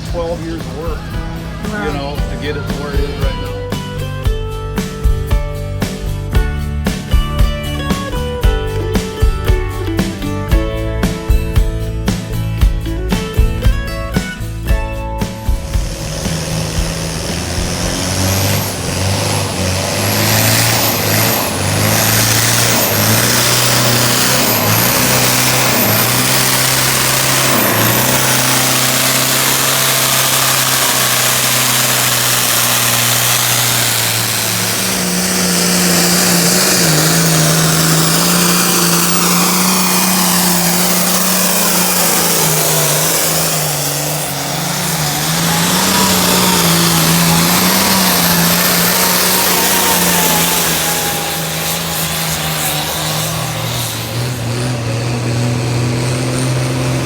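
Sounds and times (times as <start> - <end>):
truck engine running at high revs: 0.0 - 57.0.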